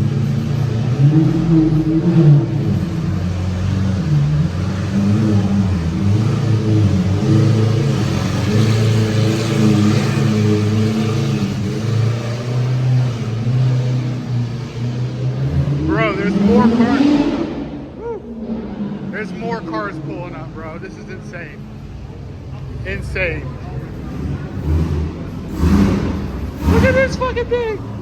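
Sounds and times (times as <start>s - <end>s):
car engines running: 0.0s - 28.0s.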